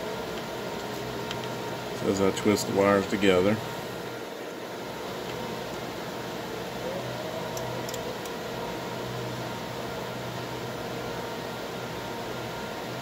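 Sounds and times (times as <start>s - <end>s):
background machinery hum and hiss: 0.0s - 13.0s.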